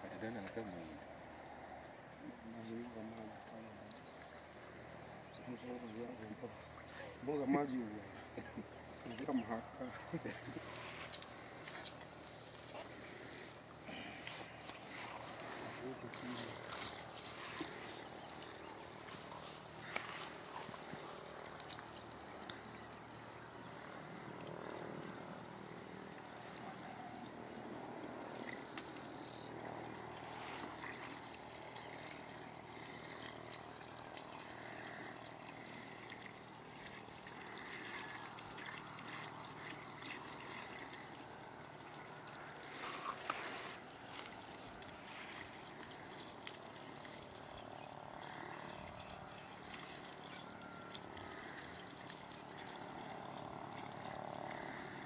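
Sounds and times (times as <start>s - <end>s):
water pouring from a bucket: 2.6s - 55.0s.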